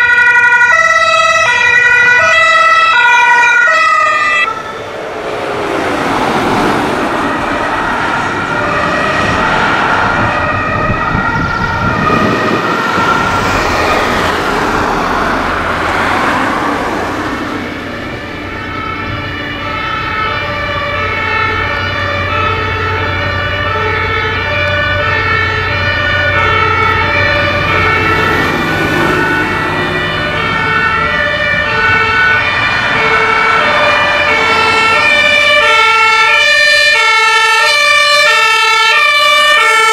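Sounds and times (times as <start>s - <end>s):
steady engine hum: 0.0s - 37.0s
ambulance passing with tyre noise: 0.0s - 39.9s
two-tone emergency siren: 0.0s - 39.9s.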